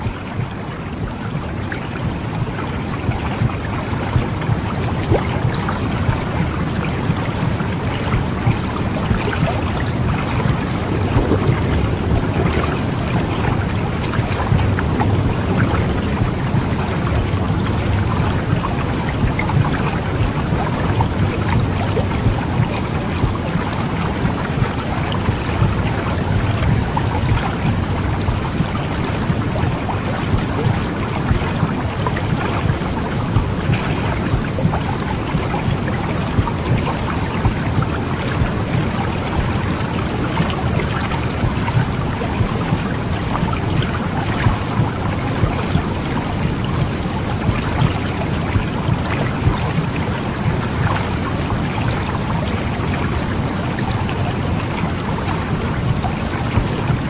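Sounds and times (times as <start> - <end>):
soft uneven pulses: 0.0 - 57.0.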